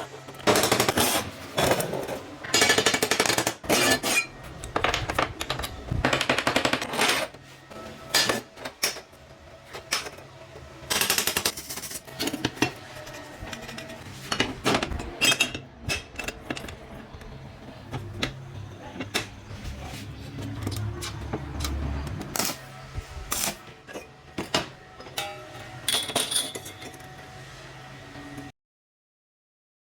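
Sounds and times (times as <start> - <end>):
metal parts clicking and clanking: 0.3 - 7.4, 8.1 - 22.6, 23.3 - 27.1.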